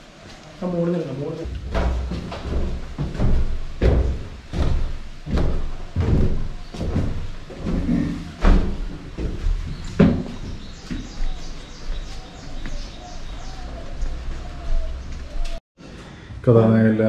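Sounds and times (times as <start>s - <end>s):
footsteps on wooden stairs: 1.4s - 15.6s.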